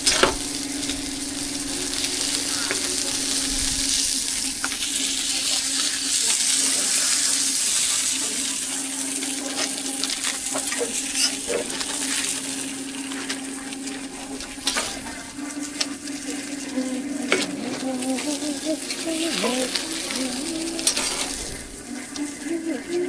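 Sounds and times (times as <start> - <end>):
food sizzling on a griddle: 0.0 - 23.0
low steady hum: 0.0 - 23.0.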